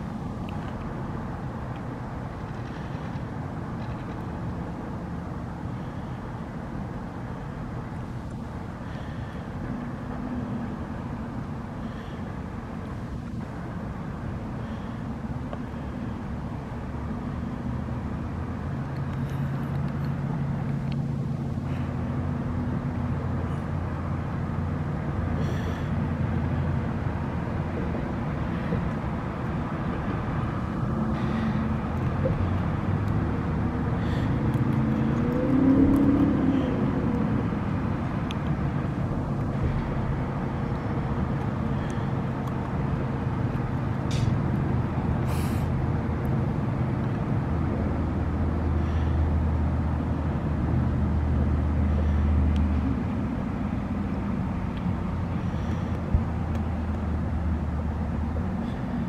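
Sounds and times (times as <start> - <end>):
engine hum: 0.0 - 59.0
road traffic rumble: 0.0 - 59.0.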